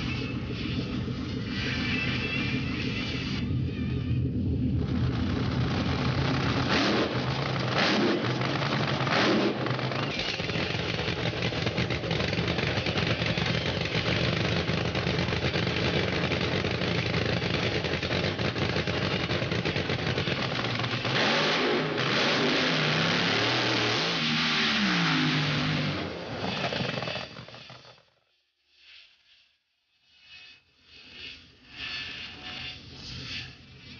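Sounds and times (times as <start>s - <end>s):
racing car engines roaring: 0.0s - 28.0s.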